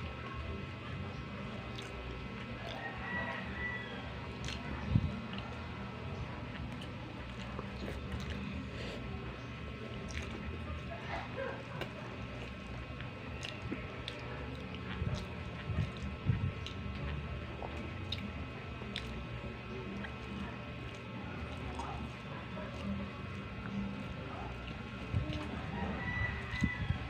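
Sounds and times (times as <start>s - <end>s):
person chewing food: 0.1s - 27.0s.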